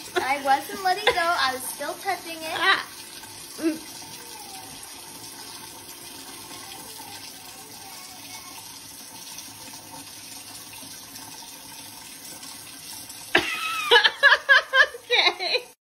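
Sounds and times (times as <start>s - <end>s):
faucet running into steel sink: 0.0s - 15.8s.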